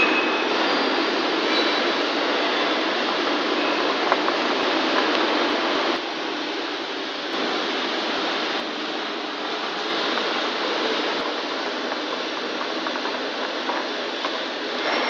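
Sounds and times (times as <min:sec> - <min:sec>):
factory noise hiss: 0:00.0 - 0:15.0.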